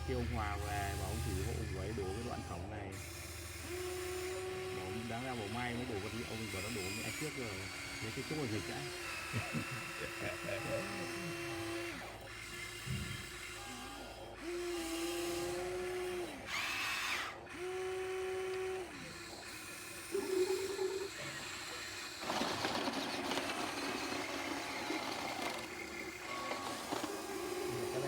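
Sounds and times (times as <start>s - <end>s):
small electric motors whining: 0.0s - 28.0s.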